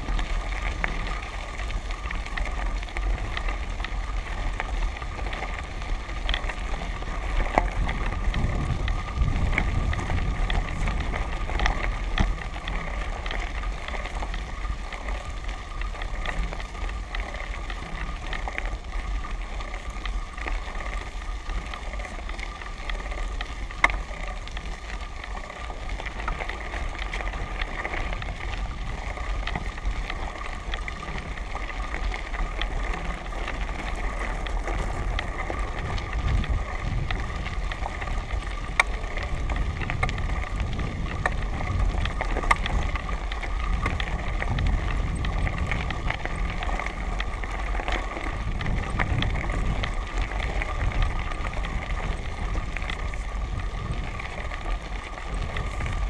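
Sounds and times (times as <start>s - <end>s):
tyres crunching on gravel: 0.0s - 56.0s.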